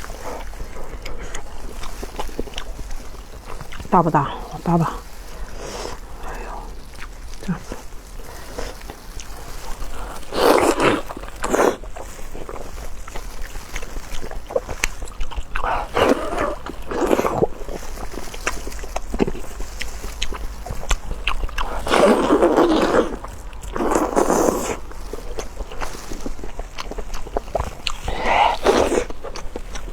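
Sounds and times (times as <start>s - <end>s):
wet chewing and slurping: 0.0s - 29.9s.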